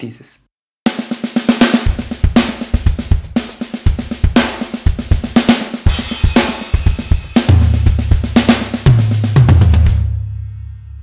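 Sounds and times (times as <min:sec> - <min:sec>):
drum kit groove: 0:00.9 - 0:10.3.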